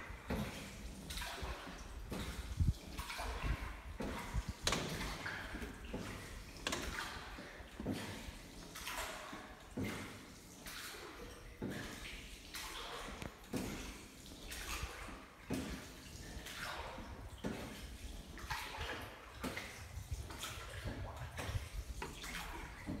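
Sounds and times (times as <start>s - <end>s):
oars splashing through water: 0.0s - 23.0s
water dripping: 0.1s - 23.0s.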